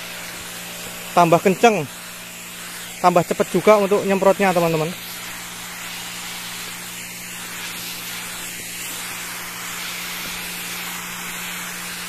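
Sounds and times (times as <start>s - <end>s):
pump motor hum: 0.0s - 12.0s
sprayer nozzle hissing mist: 0.0s - 12.0s.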